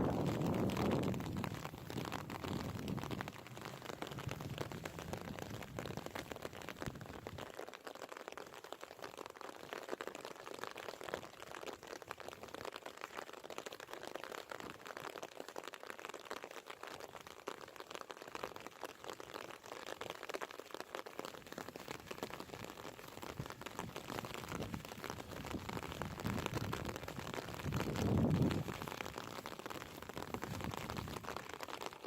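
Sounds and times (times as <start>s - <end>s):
rain pattering: 0.0s - 32.0s.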